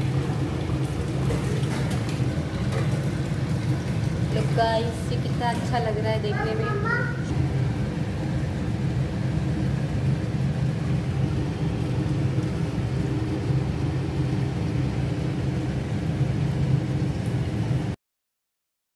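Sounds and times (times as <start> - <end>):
low mechanical hum and rumble: 0.0 - 18.0.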